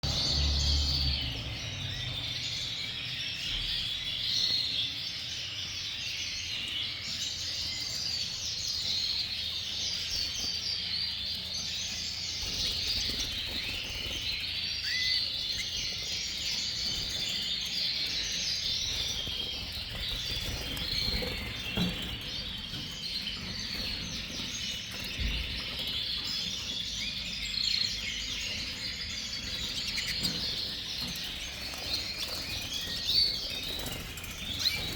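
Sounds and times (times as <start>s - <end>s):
canaries chirping and singing: 0.0s - 34.9s.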